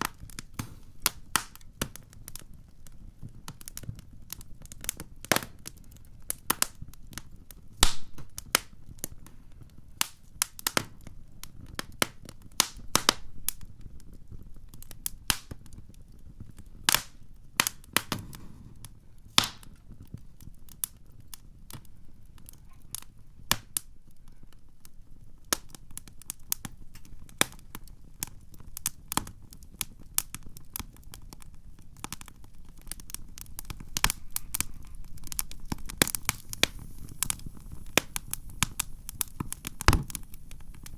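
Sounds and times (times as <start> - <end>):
campfire pops and snaps: 0.0 - 40.9
low rumble of burning fire: 0.0 - 40.9.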